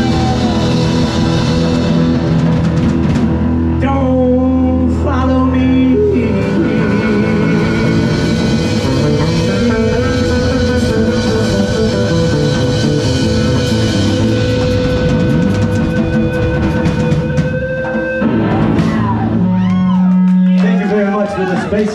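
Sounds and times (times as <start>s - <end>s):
live rock band playing: 0.0s - 21.9s.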